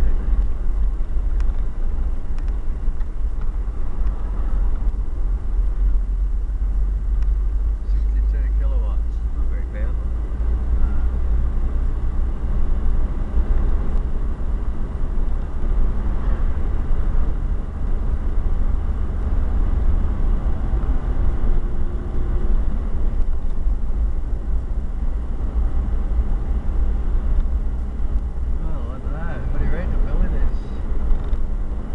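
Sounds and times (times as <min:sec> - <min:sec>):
car interior road rumble: 0:00.0 - 0:31.9.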